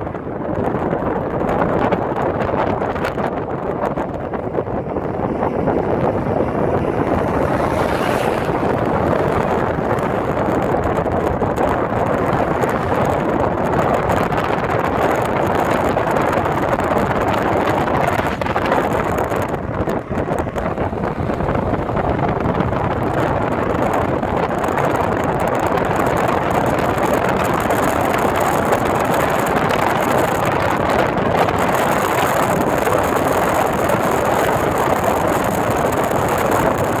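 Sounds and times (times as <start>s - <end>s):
car road and wind noise: 0.0s - 37.0s.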